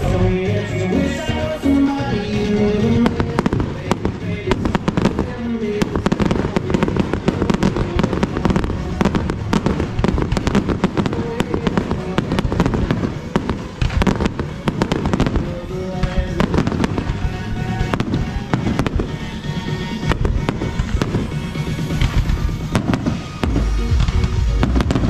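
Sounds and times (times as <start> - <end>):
music playing: 0.0 - 25.0
fireworks bangs and pops: 2.9 - 25.0.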